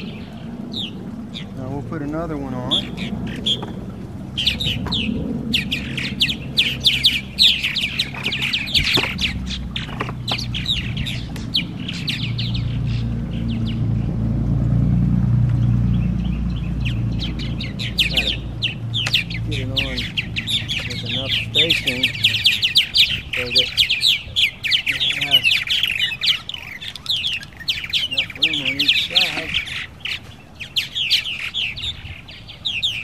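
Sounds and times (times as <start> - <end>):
birds chirping and chattering: 0.0 - 33.0.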